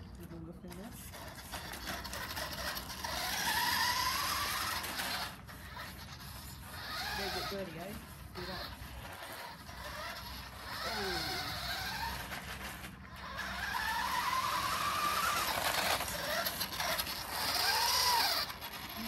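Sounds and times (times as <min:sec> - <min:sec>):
toy car motor whining: 0:00.0 - 0:19.0.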